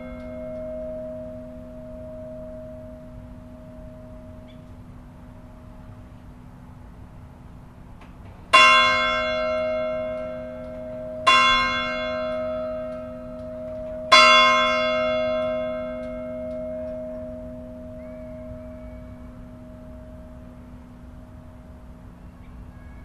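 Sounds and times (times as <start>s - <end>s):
church bell ringing: 0.0s - 5.8s, 8.5s - 23.0s.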